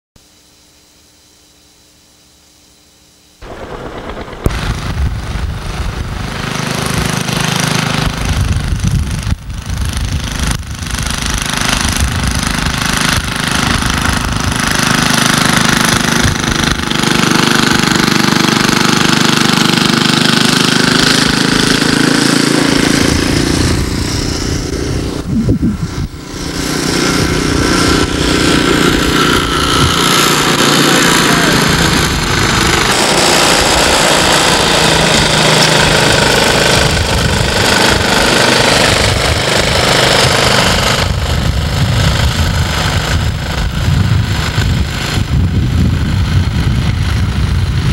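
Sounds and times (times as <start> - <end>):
small engine running: 3.4 - 47.9.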